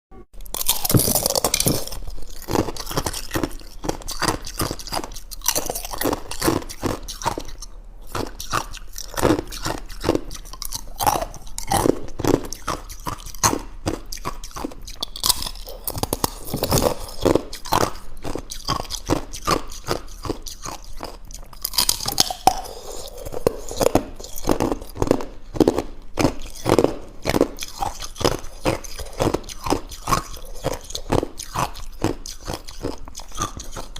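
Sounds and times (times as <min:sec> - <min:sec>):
ice crunching being chewed: 0:00.4 - 0:33.9.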